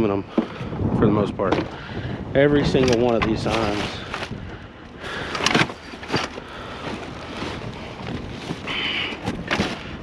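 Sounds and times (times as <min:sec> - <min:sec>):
outdoor rumble: 0:00.0 - 0:10.0
wind noise on microphone: 0:00.0 - 0:10.0.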